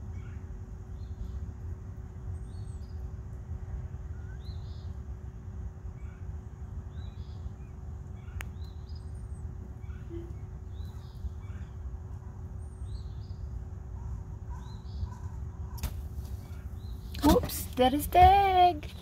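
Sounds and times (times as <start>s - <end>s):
small birds chirping: 0.0s - 3.4s, 4.0s - 19.0s
faint hum: 0.0s - 19.0s.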